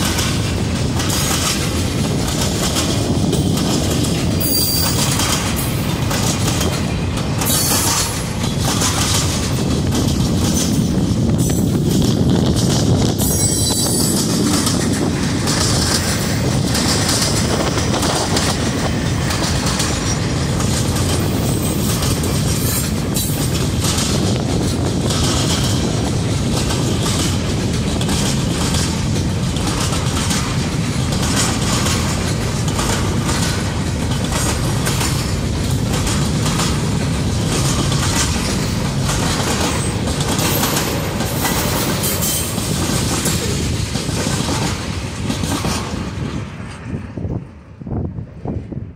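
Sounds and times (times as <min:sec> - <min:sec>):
wheels clacking over rail joints: 0:00.0 - 0:47.4
freight train rolling past: 0:00.0 - 0:48.9.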